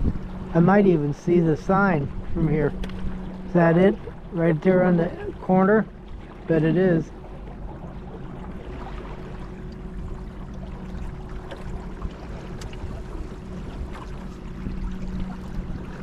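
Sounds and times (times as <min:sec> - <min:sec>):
boat motor hum: 0:00.0 - 0:16.0
water splashing along hull: 0:00.0 - 0:16.0.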